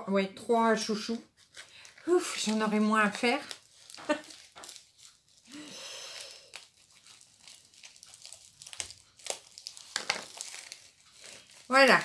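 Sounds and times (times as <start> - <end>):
package crinkling and tearing: 1.4 - 12.0.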